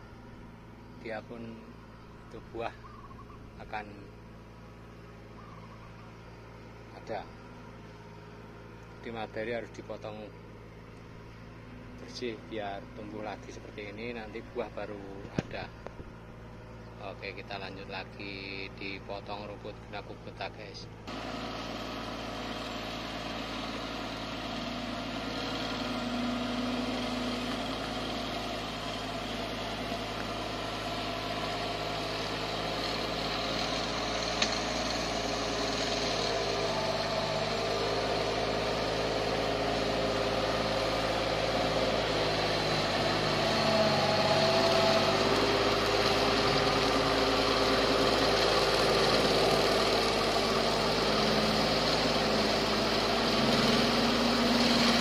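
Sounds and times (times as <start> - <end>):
grass-cutting machine engine running: 6.0 - 55.0.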